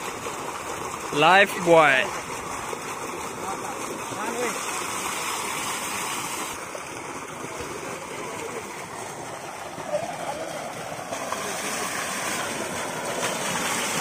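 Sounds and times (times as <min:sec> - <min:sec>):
water jet pouring into tank: 0:00.0 - 0:14.0
water splashing: 0:00.0 - 0:14.0.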